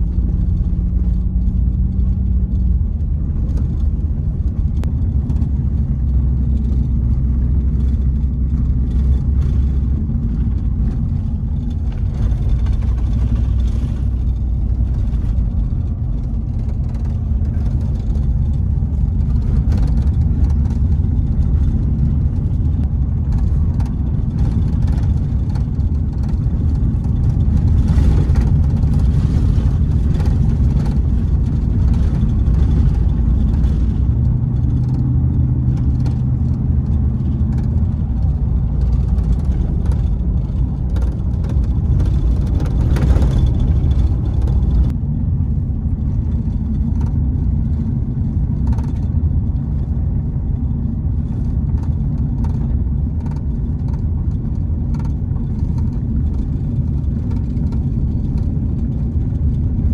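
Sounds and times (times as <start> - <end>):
car driving on dirt road: 0.0 - 59.9
low hum: 0.0 - 59.9.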